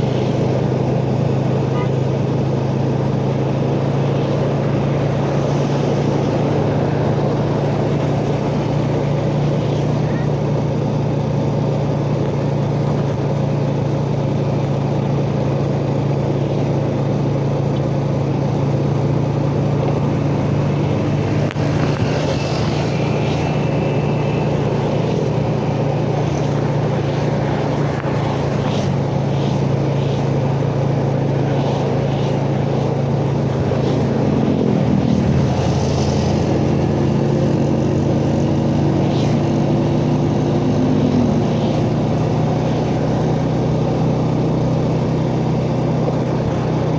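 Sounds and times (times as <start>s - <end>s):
motorcycle engine running: 0.0s - 46.9s
road and wind noise: 0.0s - 46.9s.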